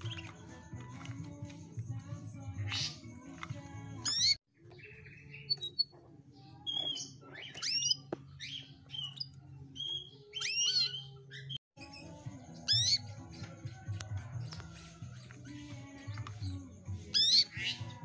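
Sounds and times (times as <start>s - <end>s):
canary chirping: 0.0s - 18.0s.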